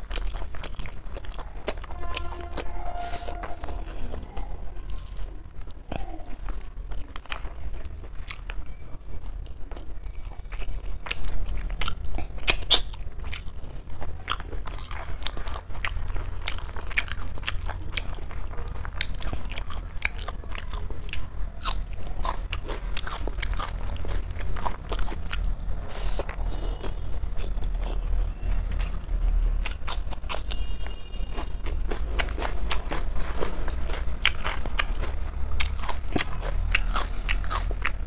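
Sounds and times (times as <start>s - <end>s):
person chewing: 0.0s - 38.0s.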